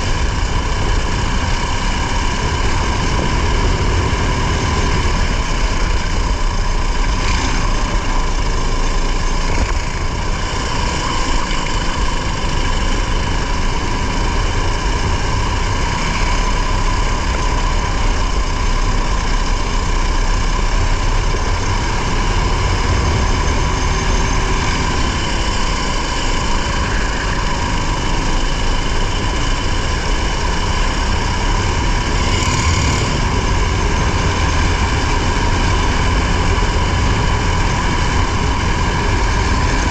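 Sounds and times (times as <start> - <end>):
race car engine rumble: 0.0 - 39.9.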